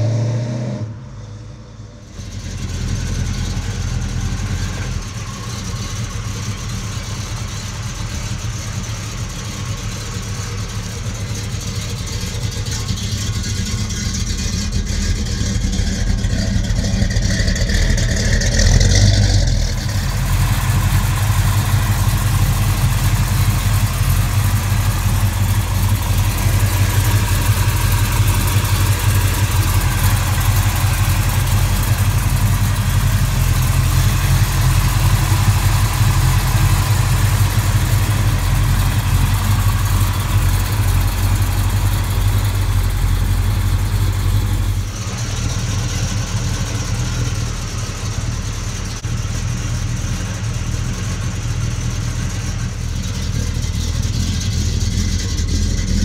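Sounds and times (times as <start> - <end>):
car engine idling: 1.0 - 56.0.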